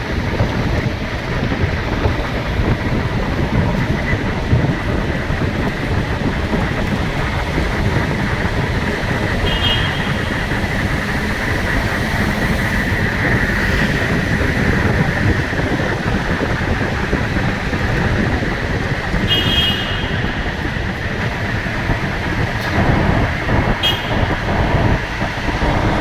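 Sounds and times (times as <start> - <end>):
vehicle rumble and road noise: 0.0 - 26.0.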